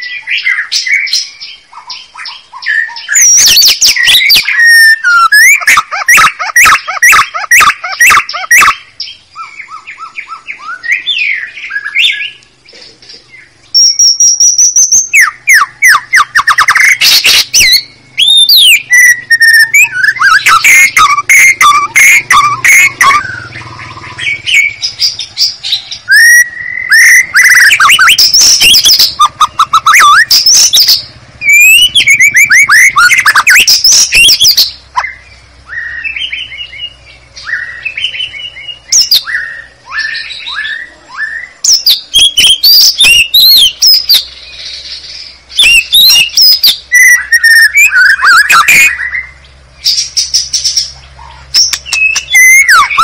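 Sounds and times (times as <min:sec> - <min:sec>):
bird song with whistles and trills: 0:00.0 - 0:53.0.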